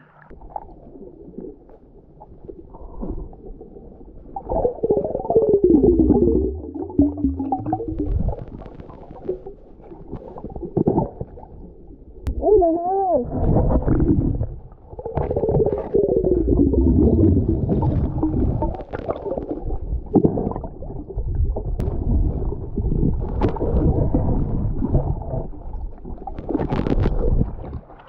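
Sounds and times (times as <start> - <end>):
muffled underwater rumble: 0.0 - 28.0.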